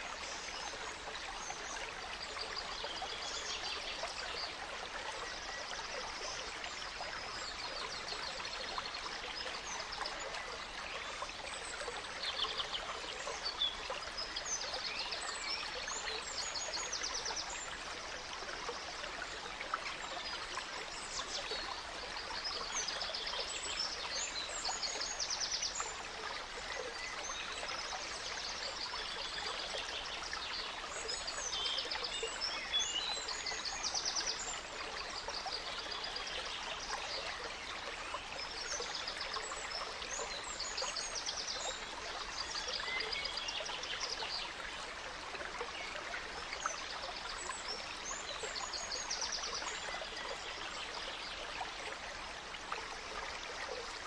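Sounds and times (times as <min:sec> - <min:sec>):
stream trickling and babbling: 0:00.0 - 0:54.0.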